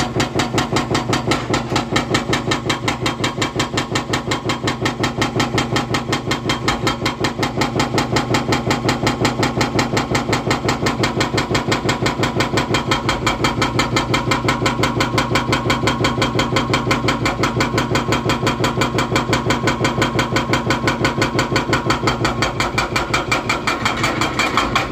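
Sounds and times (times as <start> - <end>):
hydraulic breaker hammering concrete: 0.0 - 24.9
machine engine running: 0.0 - 24.9.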